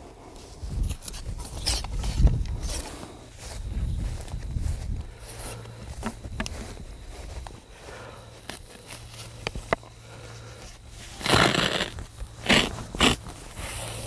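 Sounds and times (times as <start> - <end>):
footsteps on dry stubble: 0.0 - 14.0
hay crunching and scraping: 0.4 - 14.0.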